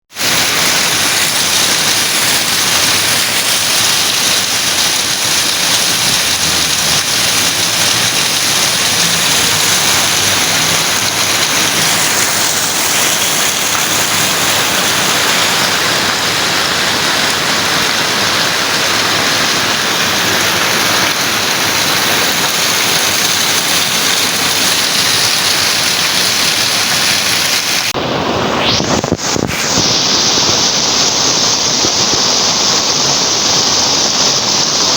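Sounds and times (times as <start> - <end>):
rain pouring: 0.1 - 34.9.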